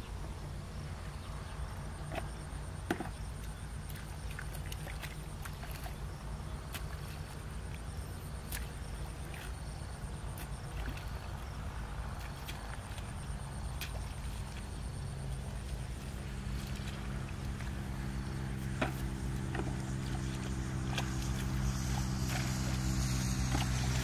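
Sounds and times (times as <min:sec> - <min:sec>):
hoe splashing in mud and water: 0:02.0 - 0:24.0.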